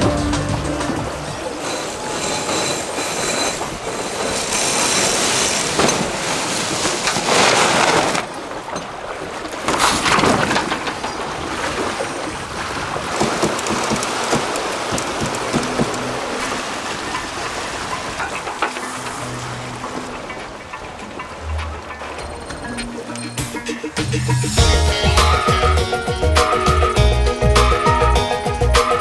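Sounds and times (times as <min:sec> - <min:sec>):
water rushing along hulls: 0:00.0 - 0:29.0.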